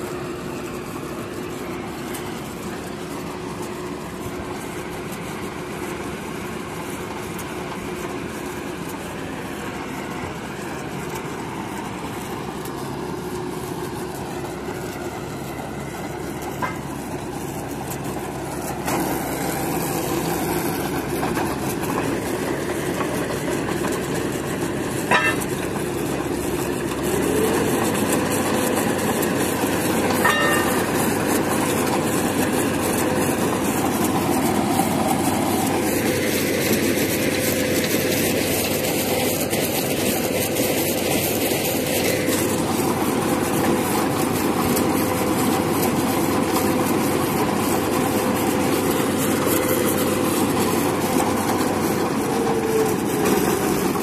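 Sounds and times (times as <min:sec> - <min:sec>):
drilling rig engine running: 0:00.0 - 0:54.0.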